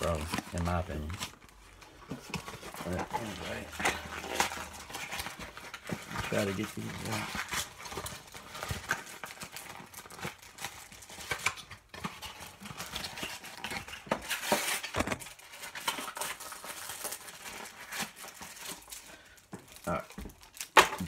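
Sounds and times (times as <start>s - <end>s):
cardboard and plastic wrap rustling: 0.0s - 21.0s.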